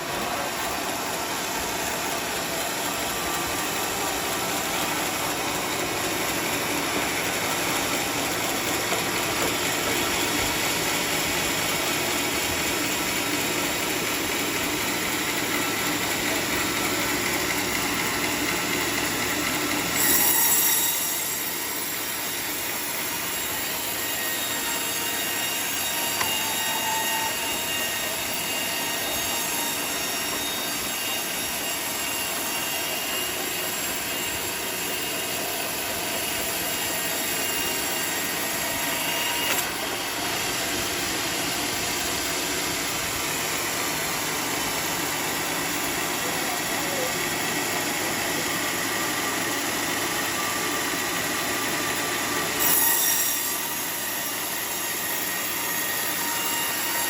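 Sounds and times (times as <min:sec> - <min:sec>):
saw blade whining through wood: 0:00.0 - 0:57.0
sawmill machine running: 0:00.0 - 0:57.0.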